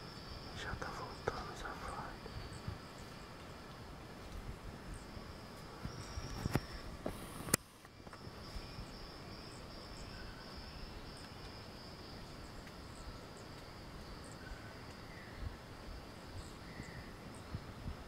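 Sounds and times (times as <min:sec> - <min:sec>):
insects pulsing trill: 0:00.0 - 0:18.0.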